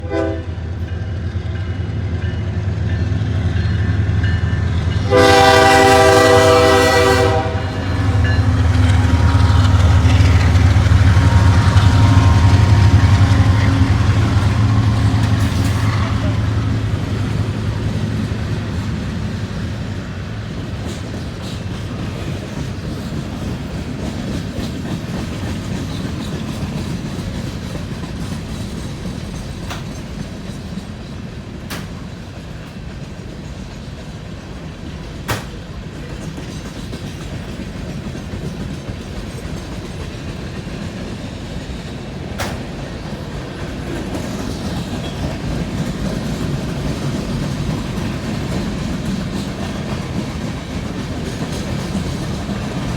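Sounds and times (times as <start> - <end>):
train cars rumbling on rails: 0.0 - 52.9.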